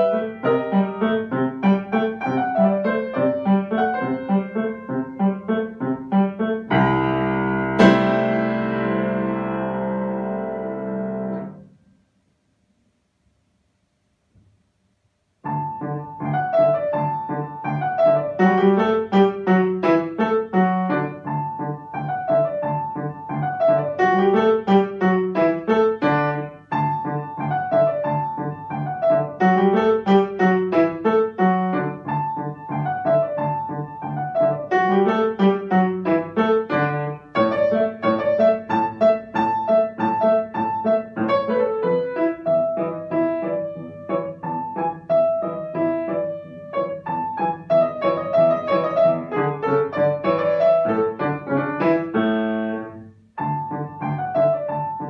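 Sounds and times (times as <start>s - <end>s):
solo piano piece: 0.0s - 12.0s, 15.3s - 55.0s.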